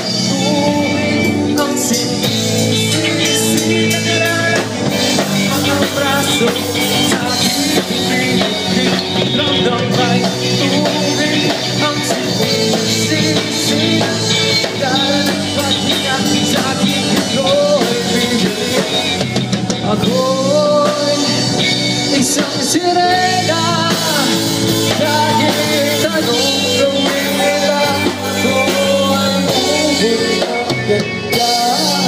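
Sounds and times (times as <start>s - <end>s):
man singing into a microphone: 0.0s - 32.0s
pop-rock band playing: 0.0s - 32.0s.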